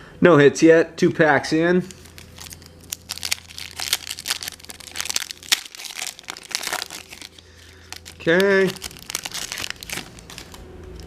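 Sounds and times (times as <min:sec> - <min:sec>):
foil wrapper crinkling and tearing: 0:01.9 - 0:11.0.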